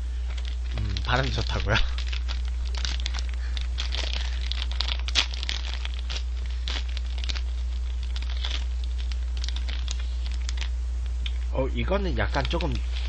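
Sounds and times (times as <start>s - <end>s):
low electrical hum: 0.0s - 13.0s
plastic wrapper crinkling: 0.3s - 11.4s, 12.2s - 13.0s.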